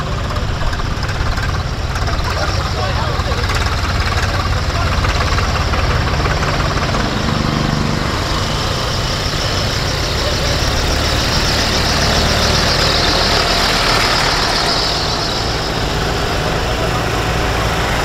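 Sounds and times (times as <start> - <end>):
tractor diesel engines passing: 0.0 - 18.0.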